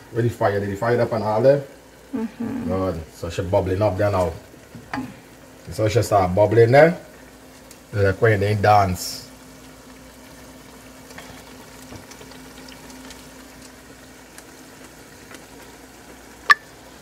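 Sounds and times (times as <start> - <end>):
curry bubbling in a pot: 2.8 - 17.0.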